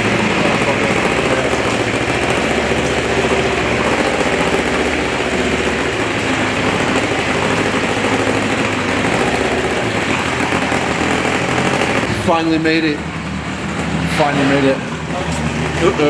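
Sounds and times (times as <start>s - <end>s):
boat engine running: 0.0s - 16.0s
water rushing around hull: 0.0s - 16.0s.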